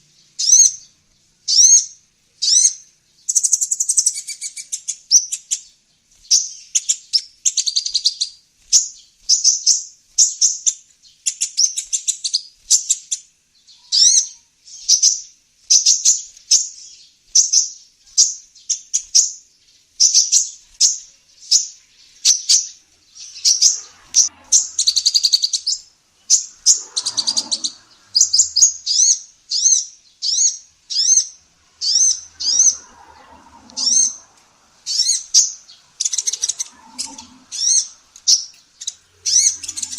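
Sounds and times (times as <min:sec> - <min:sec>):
sunbird high-pitched chirps: 0:00.2 - 0:32.9, 0:34.8 - 0:39.9.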